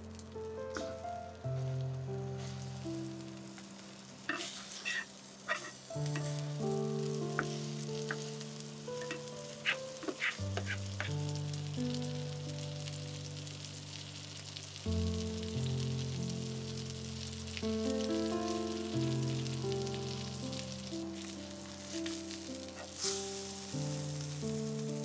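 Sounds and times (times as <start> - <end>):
fish sizzling in a frying pan: 0.0 - 25.0
soft background music: 0.0 - 25.0.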